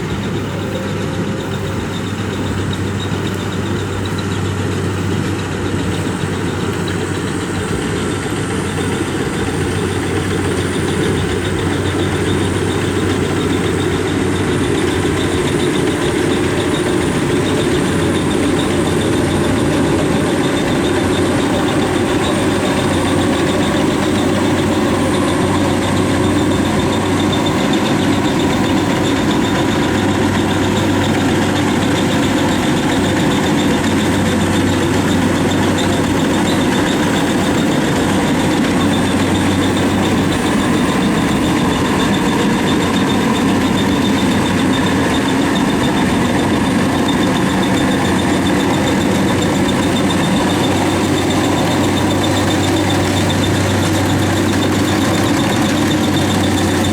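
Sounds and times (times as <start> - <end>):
combine harvester engine running: 0.0 - 56.9.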